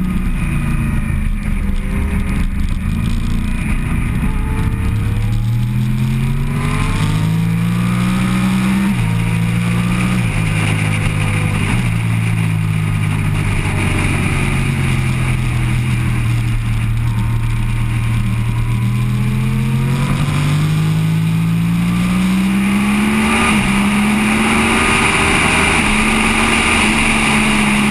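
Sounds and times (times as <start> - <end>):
motorcycle engine: 0.0 - 27.9.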